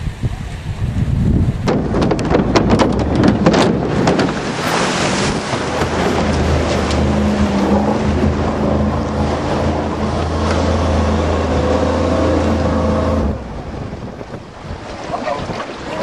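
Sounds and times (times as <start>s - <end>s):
wind on microphone: 0.0s - 16.0s
water splashing: 1.4s - 16.0s.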